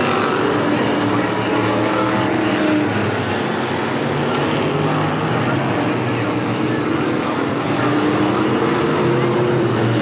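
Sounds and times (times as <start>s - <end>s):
race car engines: 0.0s - 10.0s.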